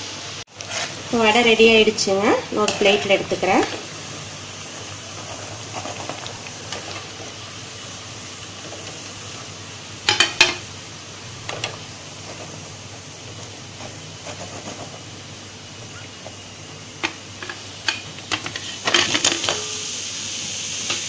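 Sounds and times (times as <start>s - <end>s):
oil sizzling in a wok: 0.0s - 21.0s.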